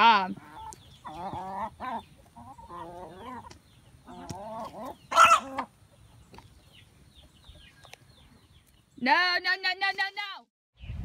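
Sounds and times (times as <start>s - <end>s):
chickens clucking: 0.0s - 8.9s.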